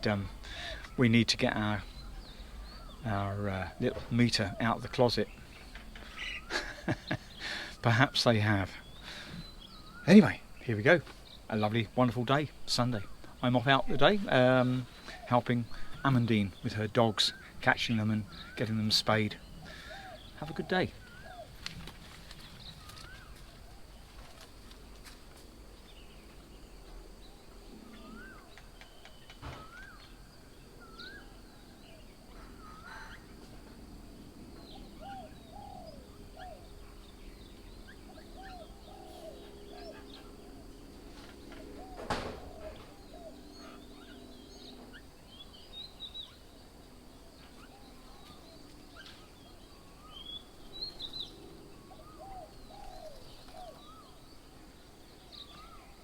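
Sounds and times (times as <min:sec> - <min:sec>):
birds chirping and whistling: 0:00.0 - 0:24.8, 0:25.7 - 0:56.0.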